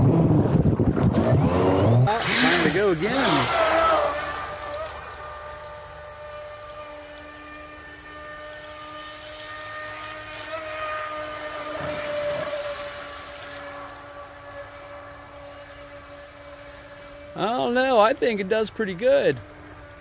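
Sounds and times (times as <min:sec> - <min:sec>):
model boat motor whining: 0:00.0 - 0:20.0.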